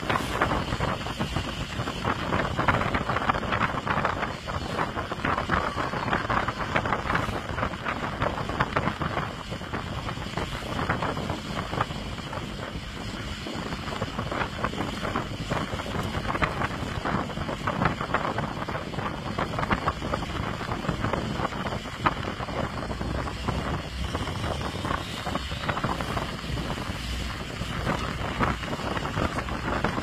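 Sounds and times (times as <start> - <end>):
motorboat running: 0.0 - 30.0
water splashing against hull: 0.0 - 30.0
wind on microphone: 0.0 - 30.0.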